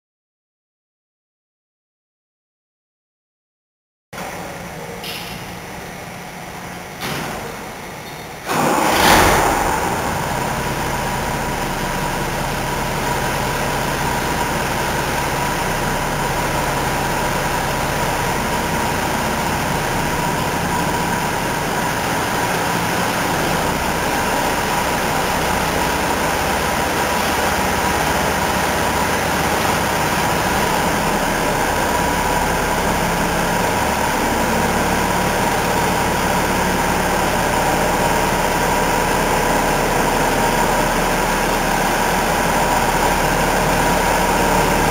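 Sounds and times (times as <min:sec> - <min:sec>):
diesel engine running: 0:04.2 - 0:44.9.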